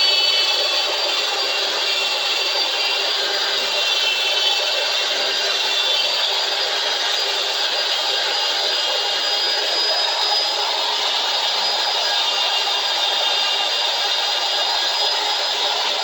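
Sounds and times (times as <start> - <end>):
power tool whining: 0.0 - 16.0.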